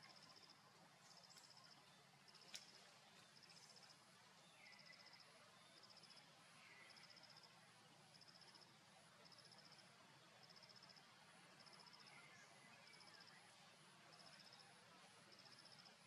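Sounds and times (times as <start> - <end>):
insect chirping trills: 0.0 - 16.0.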